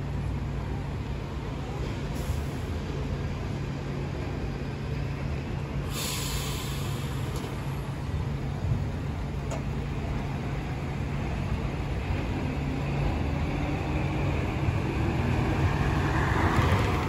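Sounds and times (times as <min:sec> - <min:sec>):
city traffic noise: 0:00.0 - 0:17.0
tram running past with low hum: 0:00.0 - 0:17.0.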